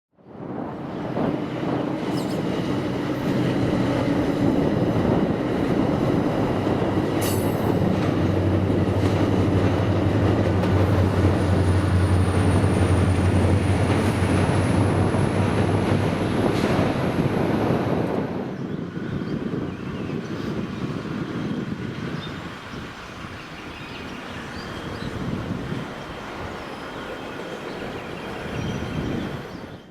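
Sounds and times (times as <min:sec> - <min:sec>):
train wheels rumbling on rail: 0:00.3 - 0:29.9.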